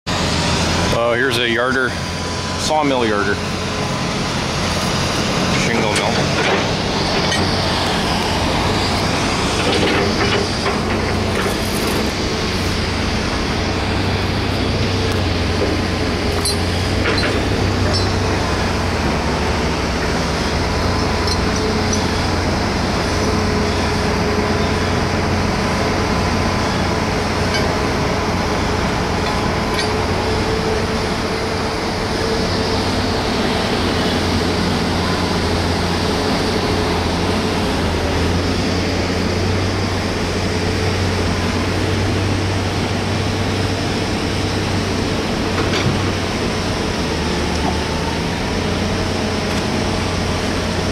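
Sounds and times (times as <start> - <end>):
sawmill machinery drone: 0.1 - 50.9.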